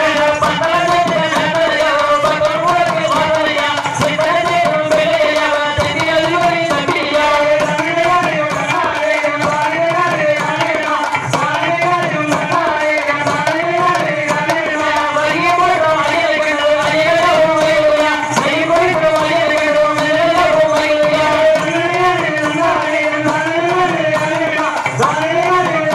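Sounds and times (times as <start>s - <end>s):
person singing: 0.0s - 25.9s
steady drum beat: 0.0s - 25.9s.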